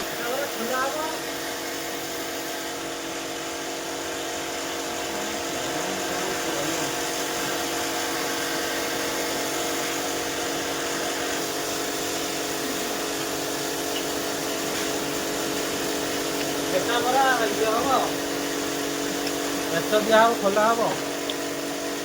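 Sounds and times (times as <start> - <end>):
electric power tool motor running: 0.0 - 22.0.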